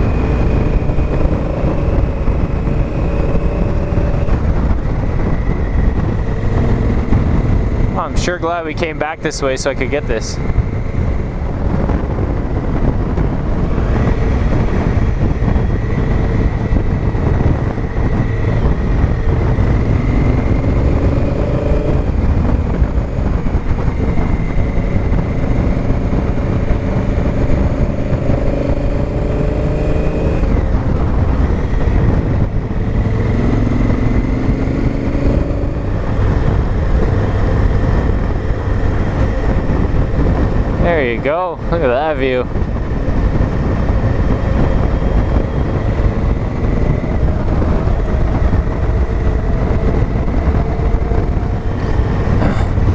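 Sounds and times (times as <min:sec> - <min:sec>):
motorcycle engine accelerating: 0:00.0 - 0:52.9
wind rush: 0:00.0 - 0:52.9.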